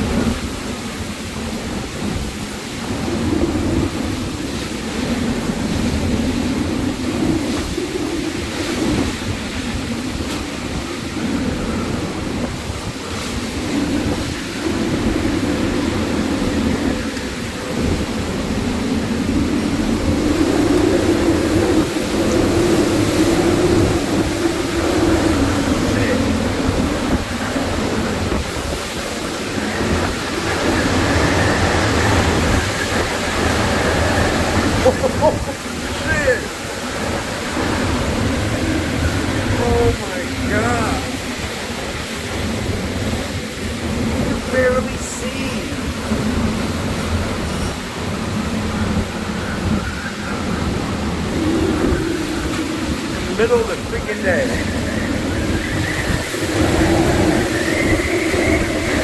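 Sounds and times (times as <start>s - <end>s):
strong gusting wind: 0.0s - 59.0s
wind buffeting microphone: 0.0s - 59.0s.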